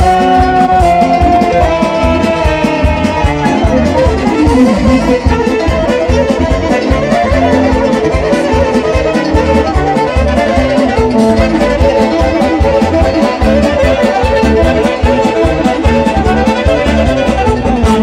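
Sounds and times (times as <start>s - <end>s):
fast folk band instrumental: 0.0s - 18.0s
violin leading tune: 0.0s - 18.0s.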